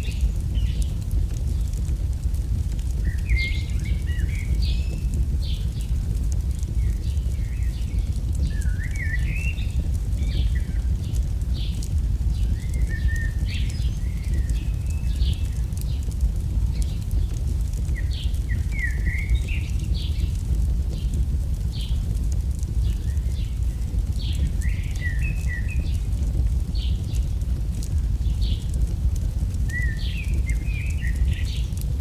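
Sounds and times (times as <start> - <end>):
fire burning rumble: 0.0 - 32.0
fire crackles: 0.0 - 32.0
small birds chirping: 0.0 - 32.0.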